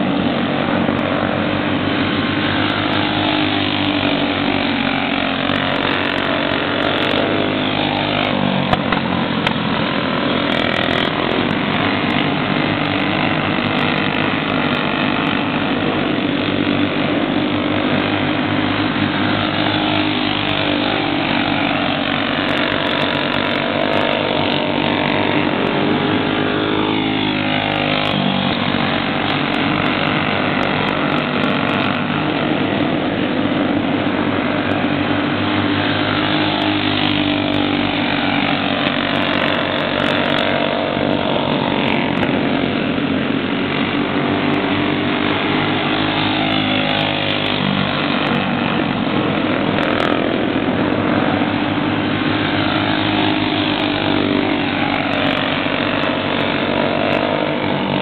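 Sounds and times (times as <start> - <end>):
racing kart engines passing: 0.0 - 58.0.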